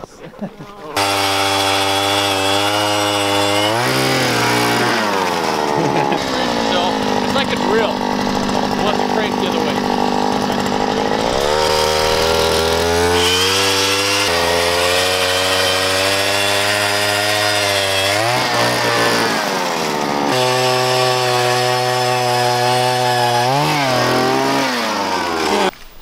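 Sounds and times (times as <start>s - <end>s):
ice auger engine drilling: 0.8s - 25.8s.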